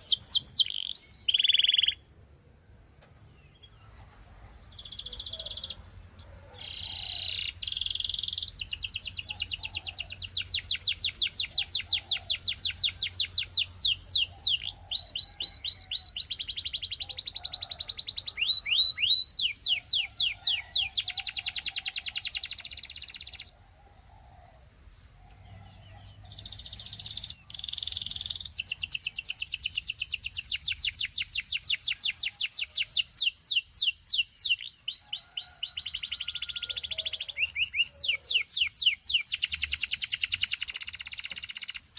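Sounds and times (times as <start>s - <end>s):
canary singing trills: 0.0s - 2.1s, 3.2s - 23.6s, 25.2s - 41.9s.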